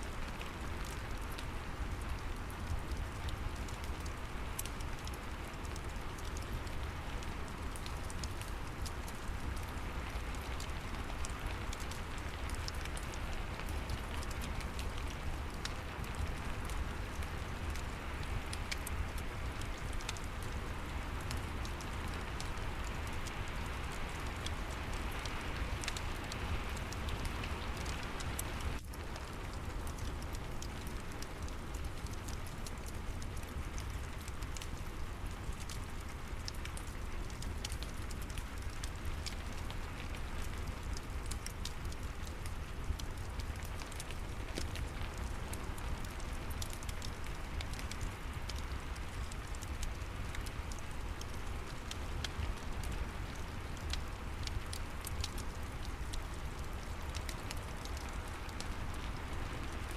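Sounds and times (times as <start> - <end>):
fireplace crackling and popping: 0.0 - 59.9
steady rain: 0.0 - 59.9.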